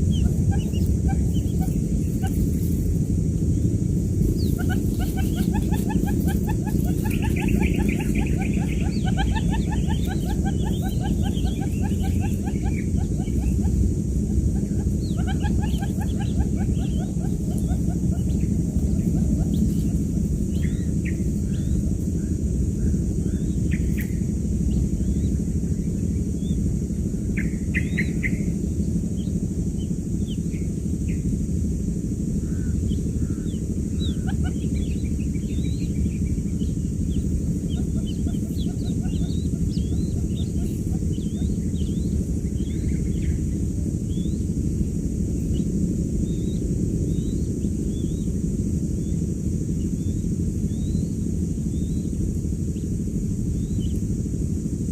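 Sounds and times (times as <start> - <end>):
quail chicks peeping: 0.0 - 31.3, 32.2 - 54.9
low hum: 0.0 - 54.9.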